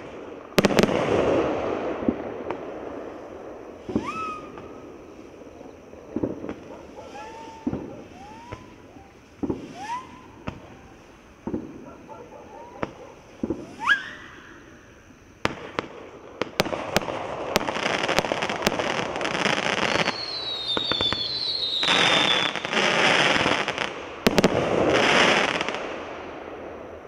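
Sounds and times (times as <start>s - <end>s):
rising firework whistle: 0.0s - 26.1s
firework bangs: 0.0s - 27.0s.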